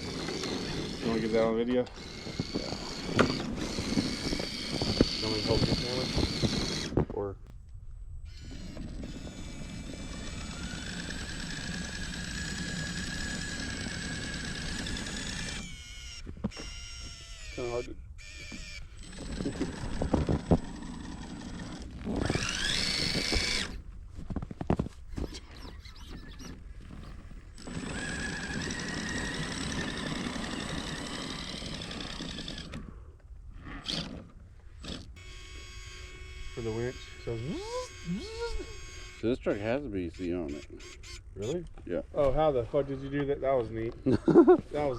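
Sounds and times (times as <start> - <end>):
rc truck motor whining: 0.0 - 7.3, 8.2 - 41.8.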